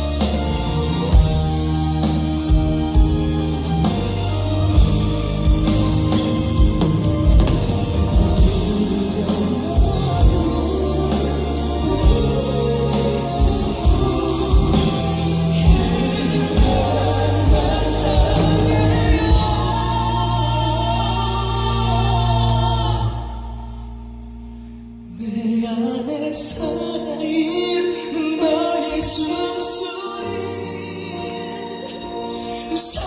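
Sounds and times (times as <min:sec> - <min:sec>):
live band playing a ballad: 0:00.0 - 0:33.0
vocals: 0:00.0 - 0:33.0.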